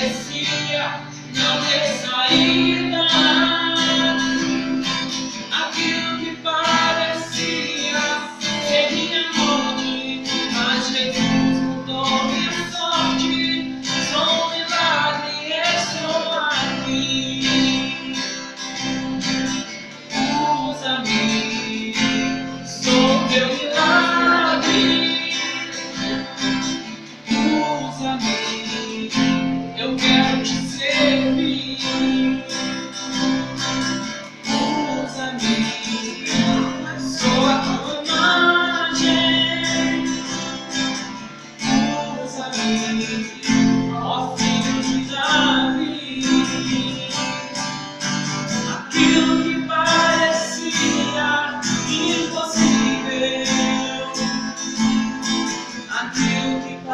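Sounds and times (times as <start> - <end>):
acoustic guitar strumming: 0.0 - 56.9
young man singing: 0.0 - 56.9.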